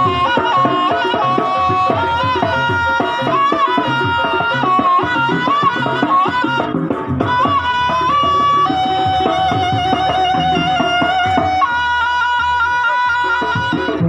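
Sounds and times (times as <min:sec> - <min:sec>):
hand drum strokes: 0:00.0 - 0:14.0
reedy wind melody: 0:00.0 - 0:14.0.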